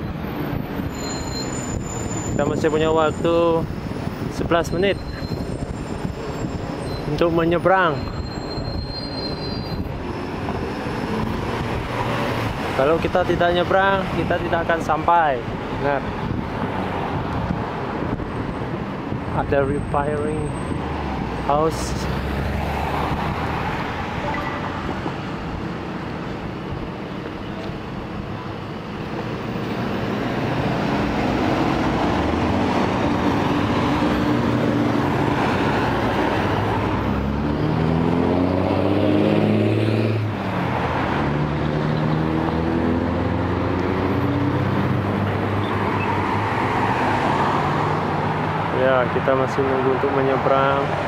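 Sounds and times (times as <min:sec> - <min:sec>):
cars and trucks driving past: 0:00.0 - 0:51.0.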